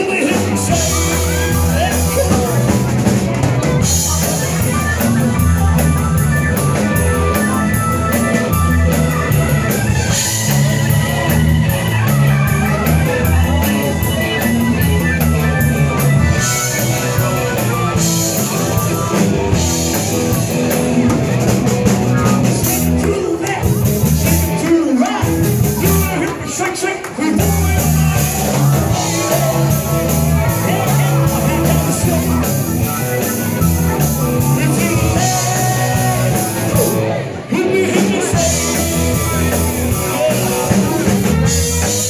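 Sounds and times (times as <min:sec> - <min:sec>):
rock band playing loudly: 0:00.0 - 0:42.0.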